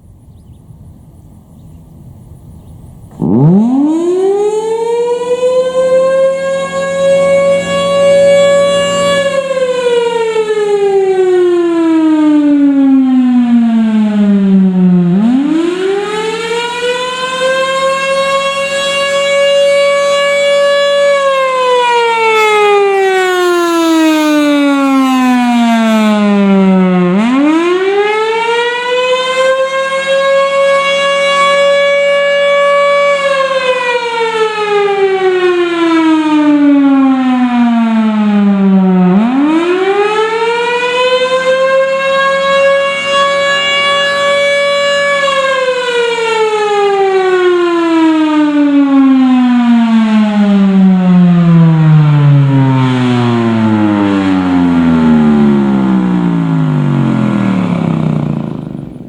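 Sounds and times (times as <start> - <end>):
storm siren wailing: 2.4 - 59.0.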